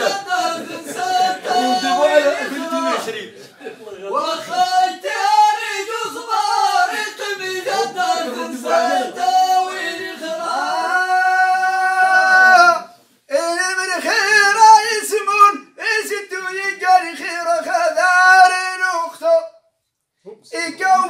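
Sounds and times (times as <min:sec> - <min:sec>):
man singing unaccompanied: 0:00.0 - 0:03.1, 0:04.1 - 0:19.5.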